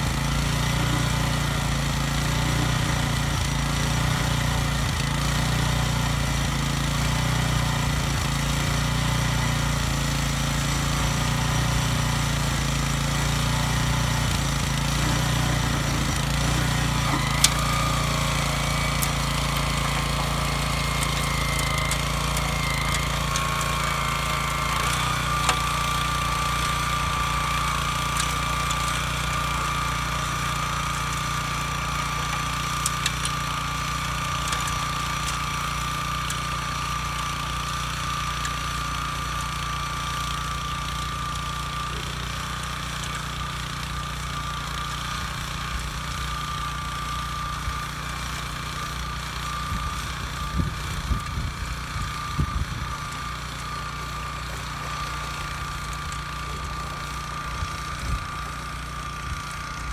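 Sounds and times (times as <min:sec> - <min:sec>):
tiller engine running under load: 0:00.0 - 0:59.9
tines churning soil: 0:00.0 - 0:59.9.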